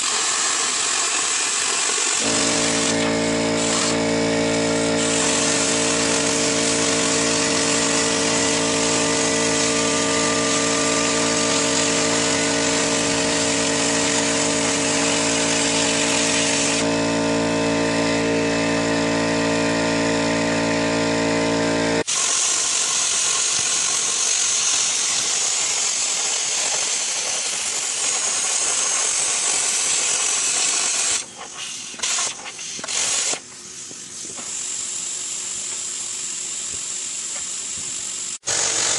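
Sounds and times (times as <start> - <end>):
plasma cutter hissing: 0.0 - 16.9, 22.0 - 38.9
machinery hum with steady tones: 2.2 - 38.9.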